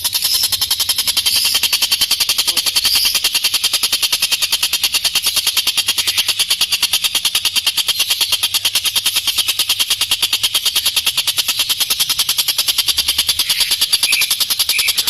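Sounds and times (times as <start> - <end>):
kingfisher rattling call: 0.0 - 15.0.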